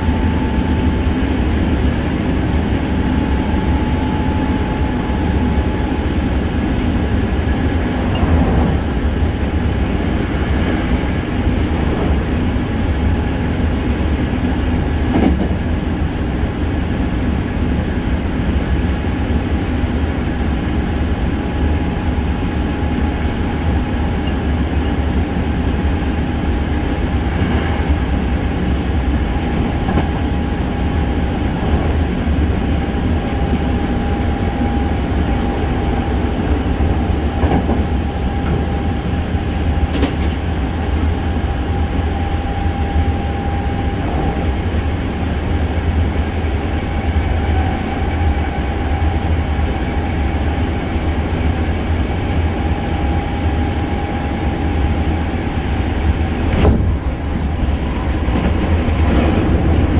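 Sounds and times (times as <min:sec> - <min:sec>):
train whine: 0:00.0 - 0:59.9
wheels rumbling on rail: 0:00.0 - 0:59.9.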